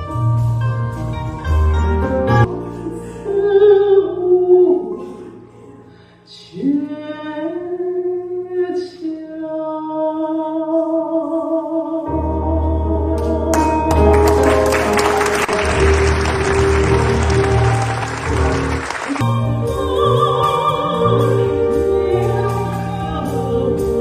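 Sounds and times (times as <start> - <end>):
sparse live music accompaniment: 0.0 - 9.0, 12.0 - 24.0
bass: 0.0 - 24.0.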